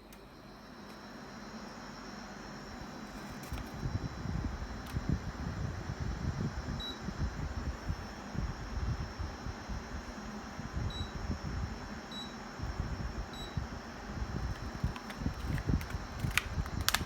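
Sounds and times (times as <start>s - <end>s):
air conditioner rush of air: 0.0s - 17.0s.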